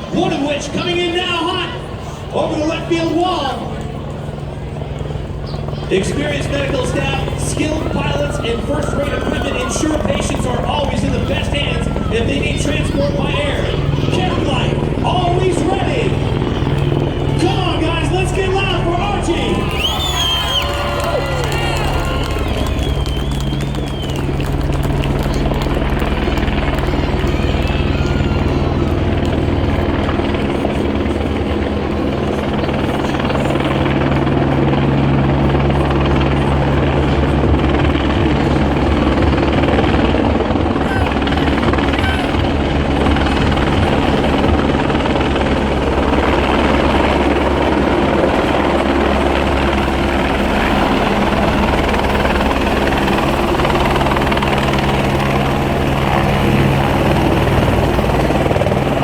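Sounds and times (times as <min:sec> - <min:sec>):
helicopter rotor beating: 0:00.0 - 0:59.0.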